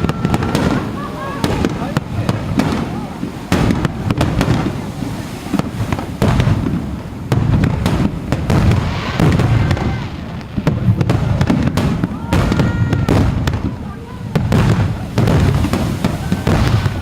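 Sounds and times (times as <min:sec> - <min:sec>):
fireworks crackling: 0:00.0 - 0:17.0
fireworks cracks and booms: 0:00.0 - 0:17.0.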